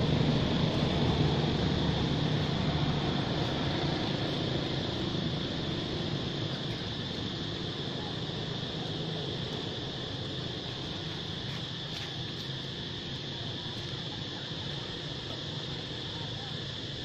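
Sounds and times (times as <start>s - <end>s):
high-pitched whine: 0.0s - 17.0s
low engine-like hum: 0.0s - 17.0s.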